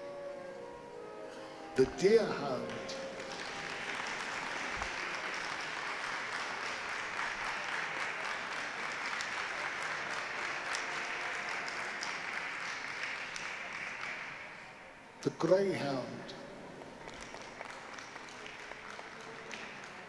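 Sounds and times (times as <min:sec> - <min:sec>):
audience applauding: 0:01.8 - 0:15.6, 0:16.8 - 0:20.0.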